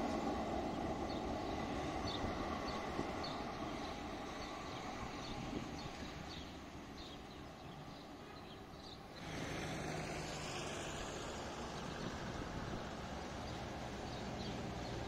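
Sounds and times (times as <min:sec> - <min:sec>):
road traffic: 0:00.0 - 0:15.0
tram rumbling along track: 0:00.0 - 0:15.0.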